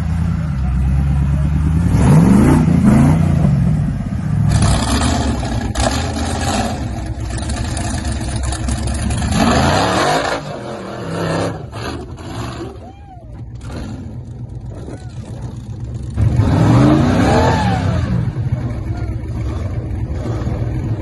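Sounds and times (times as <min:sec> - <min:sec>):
buggy engines revving: 0:00.0 - 0:21.0.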